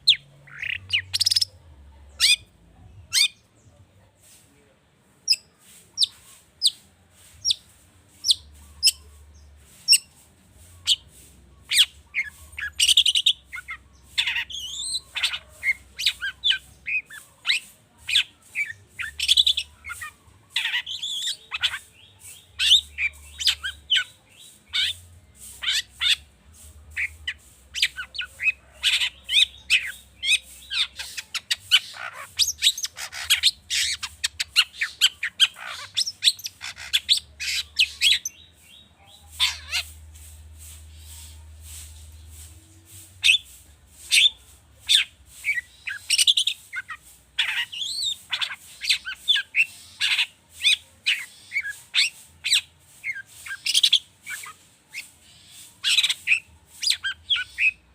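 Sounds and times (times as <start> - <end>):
shrike singing varied song: 0.0 - 3.6, 5.3 - 57.9.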